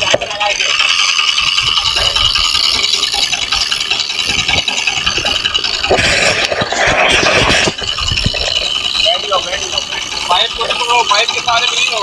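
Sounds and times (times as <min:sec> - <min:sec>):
boat diesel engine rattling: 0:00.0 - 0:12.0.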